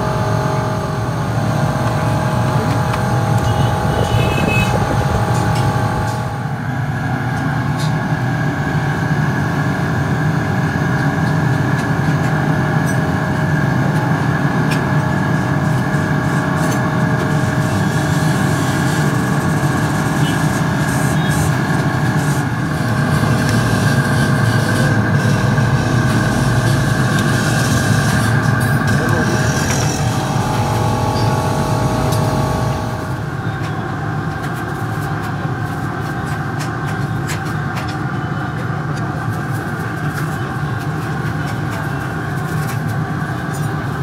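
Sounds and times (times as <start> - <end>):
steady machine drone: 0.0 - 44.0.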